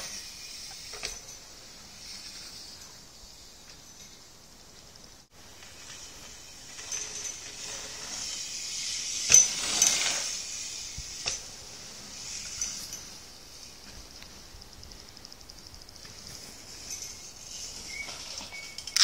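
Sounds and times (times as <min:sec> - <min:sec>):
metallic clinks from bike: 0:00.0 - 0:04.9, 0:05.5 - 0:19.0
bike tyres rolling on dirt: 0:00.0 - 0:19.0
steady high hiss: 0:00.0 - 0:19.0.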